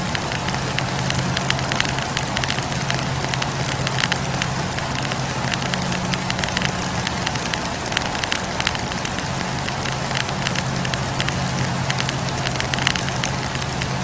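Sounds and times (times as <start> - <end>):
campfire crackling and hissing: 0.0 - 14.0.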